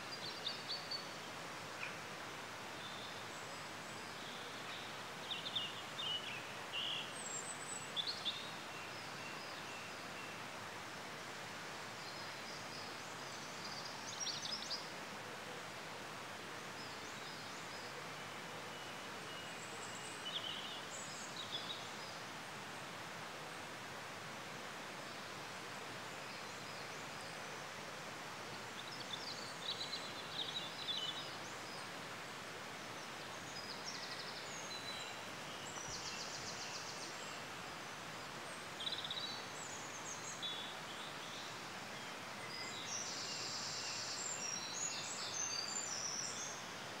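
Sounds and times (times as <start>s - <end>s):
small birds singing and calling: 0.0s - 15.1s, 15.7s - 23.0s, 23.6s - 47.0s
steady background hiss: 0.0s - 47.0s.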